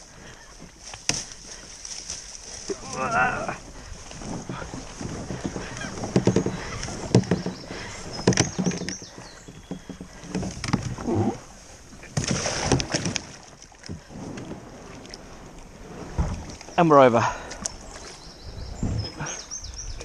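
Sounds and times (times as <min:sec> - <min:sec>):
kayak scraping against branches: 0:00.0 - 0:20.0.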